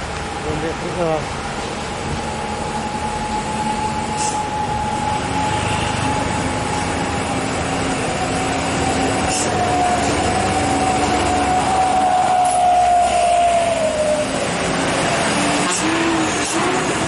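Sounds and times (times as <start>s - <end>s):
steady whine: 0.0s - 15.9s
truck engine under full throttle: 0.0s - 17.0s.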